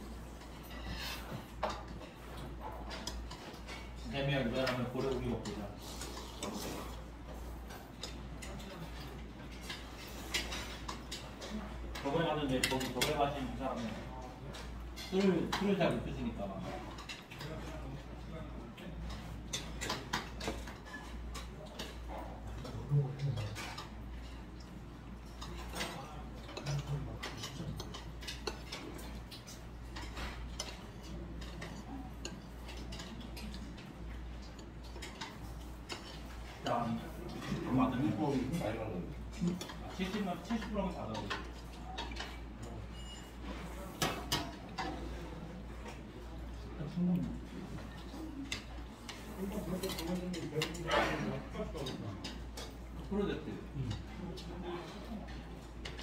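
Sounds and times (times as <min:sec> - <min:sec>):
chopsticks clicking on plates: 0:00.4 - 0:56.0.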